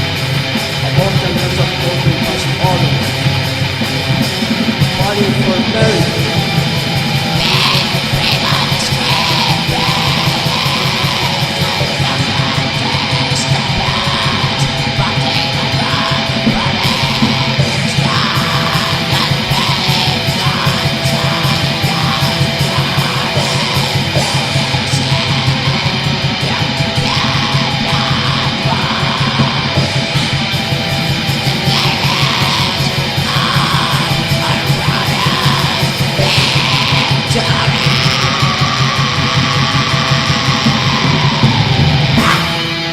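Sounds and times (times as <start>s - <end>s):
distorted electric guitars: 0.0s - 42.9s
fast drumming: 0.0s - 42.9s.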